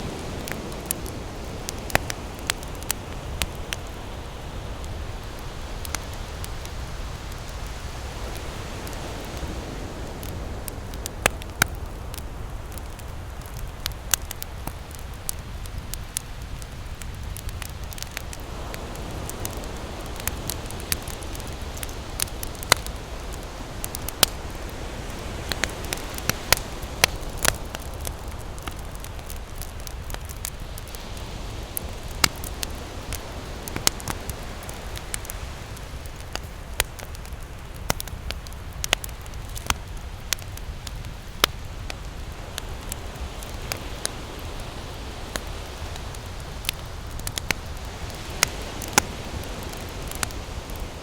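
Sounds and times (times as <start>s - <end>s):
campfire crackling: 0.0s - 51.0s
ocean surf rumble: 0.0s - 51.0s.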